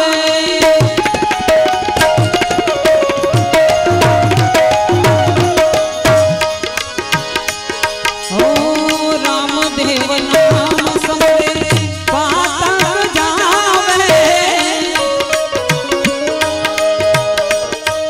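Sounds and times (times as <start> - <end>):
fast tabla beat: 0.0 - 18.0
harmonium held notes: 0.0 - 18.0.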